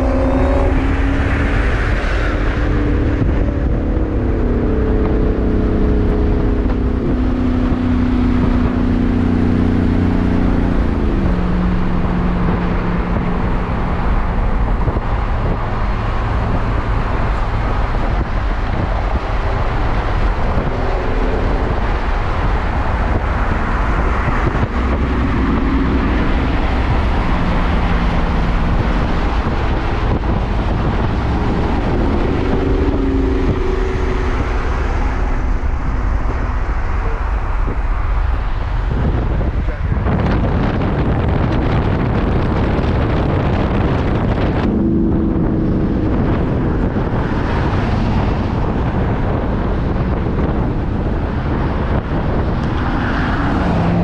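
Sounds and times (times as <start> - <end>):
road and traffic noise: 0.0 - 54.0
vehicle engine running: 0.0 - 54.0.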